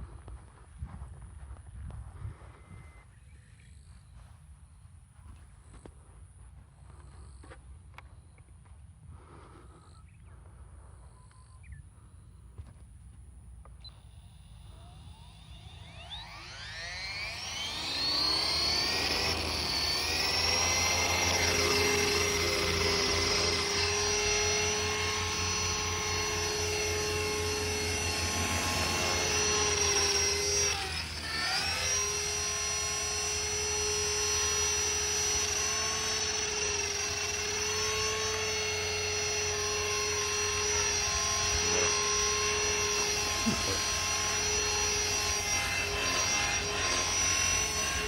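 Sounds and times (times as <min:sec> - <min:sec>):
rc helicopter motor whine: 0:00.0 - 0:48.0.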